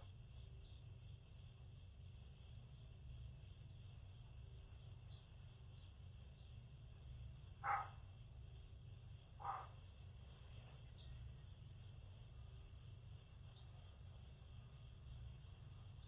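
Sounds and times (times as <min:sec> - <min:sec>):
cricket chirping: 0:00.0 - 0:16.0
low steady hum: 0:00.0 - 0:16.0.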